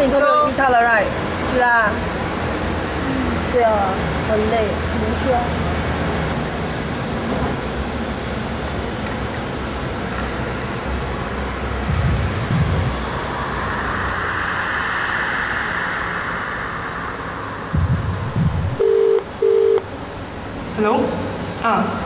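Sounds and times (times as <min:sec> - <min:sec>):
vehicle rumble and hiss: 0:00.0 - 0:22.0.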